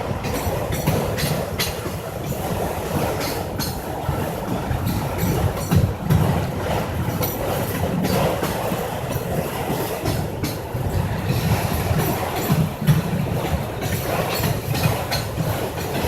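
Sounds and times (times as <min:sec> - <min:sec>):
freight train rumbling past: 0:00.0 - 0:16.0
train wheels clacking: 0:00.0 - 0:16.0.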